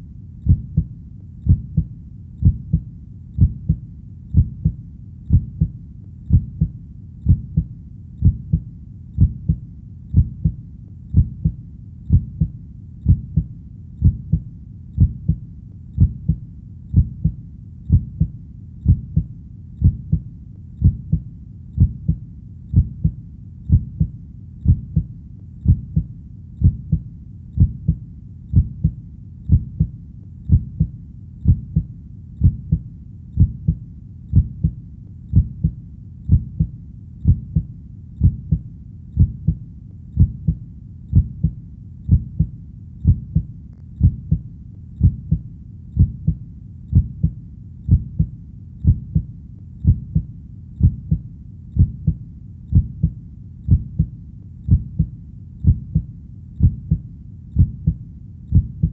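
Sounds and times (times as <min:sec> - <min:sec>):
faint low rumble: 0:00.0 - 0:58.9
heartbeat: 0:00.0 - 0:58.9.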